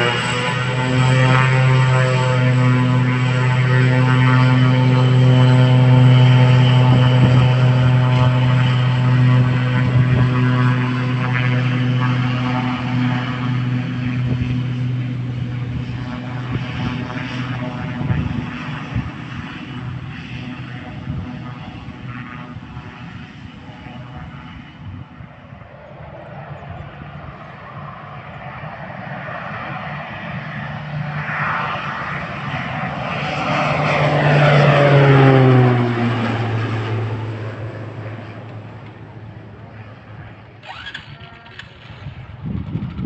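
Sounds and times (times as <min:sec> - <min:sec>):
turboprop plane taxiing: 0:00.0 - 0:43.0.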